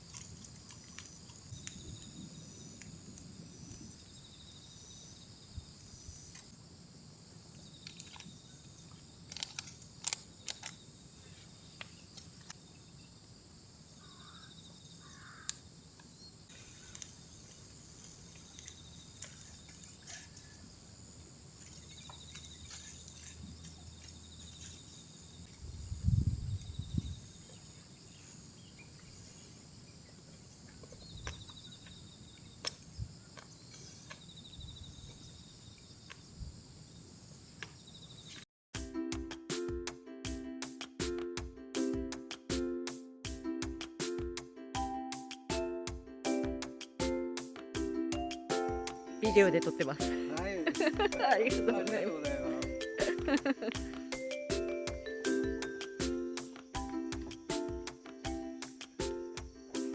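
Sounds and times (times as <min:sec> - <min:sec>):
insects chirping: 0:00.0 - 0:38.4, 0:39.6 - 0:59.9.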